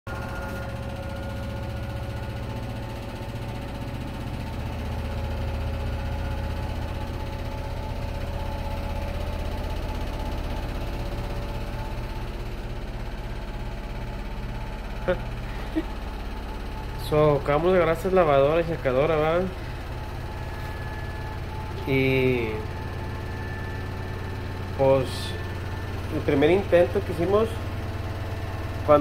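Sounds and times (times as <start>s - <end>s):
washing machine spin cycle hum: 0.1s - 29.0s.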